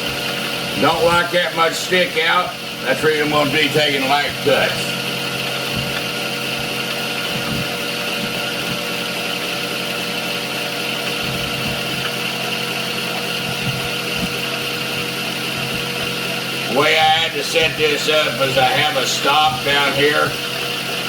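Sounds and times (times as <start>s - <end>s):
milling machine whining: 0.0s - 21.0s.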